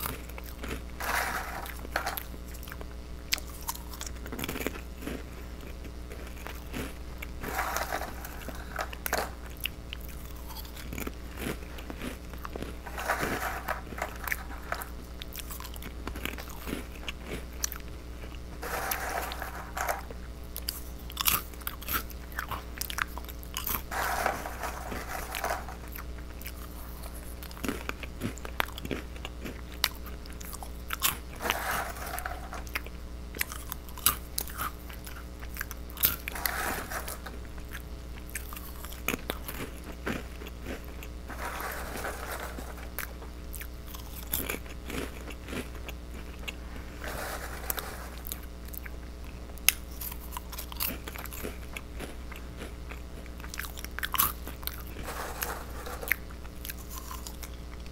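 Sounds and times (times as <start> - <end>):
crackers crunching while chewed: 0.0 - 57.9
steady low hum: 0.0 - 57.9.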